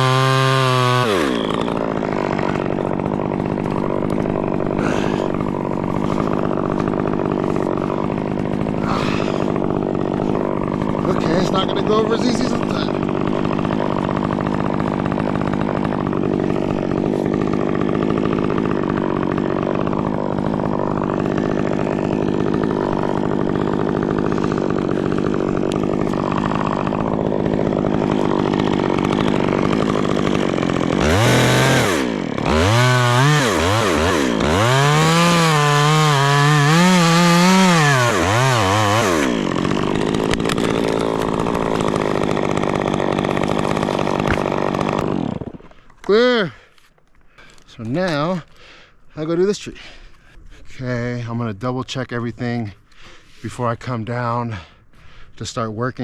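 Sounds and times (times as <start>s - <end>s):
chainsaw cutting wood: 0.0s - 50.7s.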